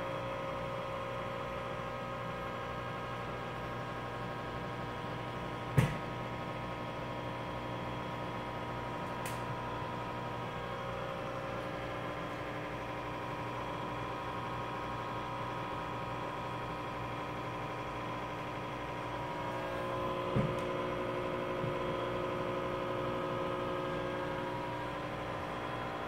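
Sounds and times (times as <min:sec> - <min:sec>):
aquarium pumps humming: 0:00.0 - 0:26.0.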